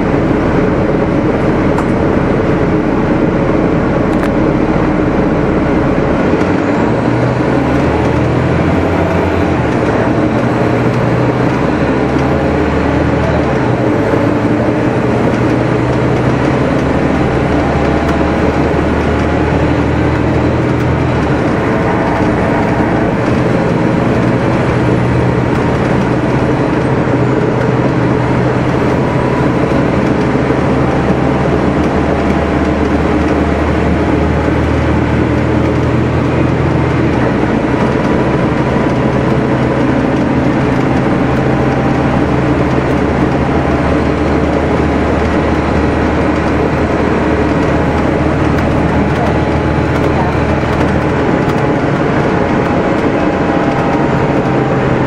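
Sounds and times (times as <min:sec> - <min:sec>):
diesel bus engine idling: 0:00.0 - 0:55.0.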